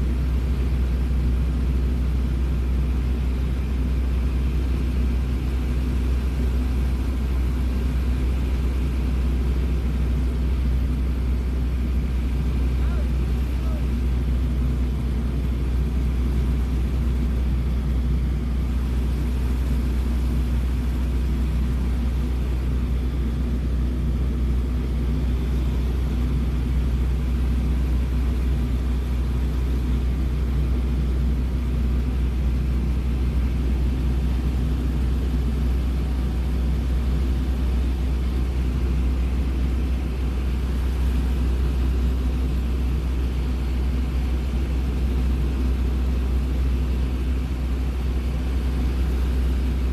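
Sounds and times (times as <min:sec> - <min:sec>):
airplane engine and propeller droning: 0:00.0 - 0:49.9.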